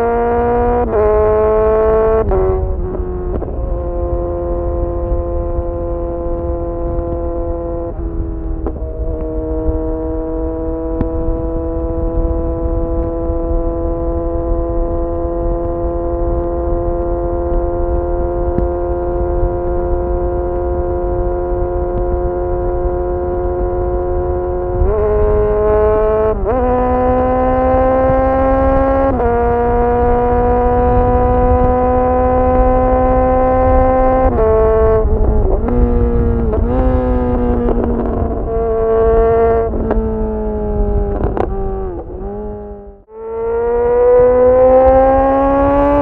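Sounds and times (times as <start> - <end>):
motorcycle engine accelerating: 0.0 - 46.0
wind rumble: 0.0 - 46.0.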